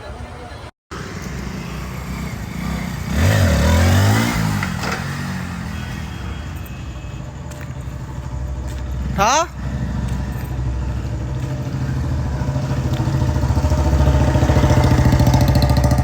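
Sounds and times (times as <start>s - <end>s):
vehicle engine running: 0.9s - 16.0s.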